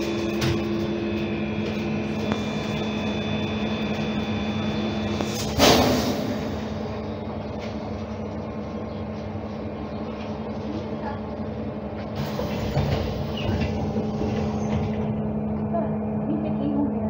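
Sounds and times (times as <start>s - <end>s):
trolleybus electric hum: 0.0s - 17.0s
vehicle running noise: 0.0s - 17.0s.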